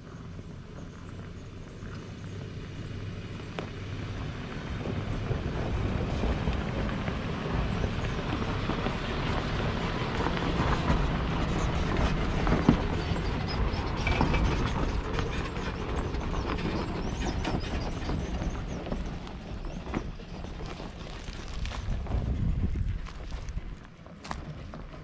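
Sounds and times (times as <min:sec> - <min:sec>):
vehicle rumbling on rocky track: 0:00.0 - 0:25.0.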